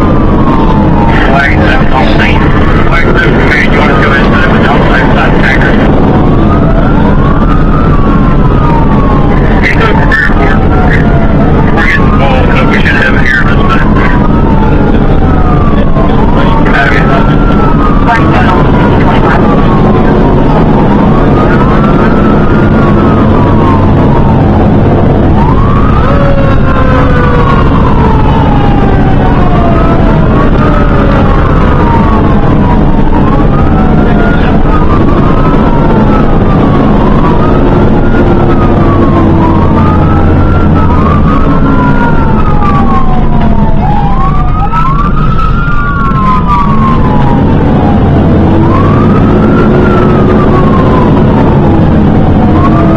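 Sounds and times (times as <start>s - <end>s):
fire engine motor: 0.0s - 52.9s
road noise: 0.0s - 52.9s
siren wailing: 0.0s - 52.9s.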